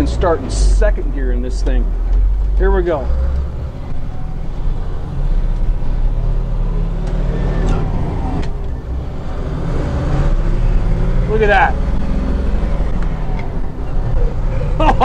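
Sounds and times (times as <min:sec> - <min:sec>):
diesel bus engine pulling away: 0:00.0 - 0:15.0
gear change: 0:00.0 - 0:15.0.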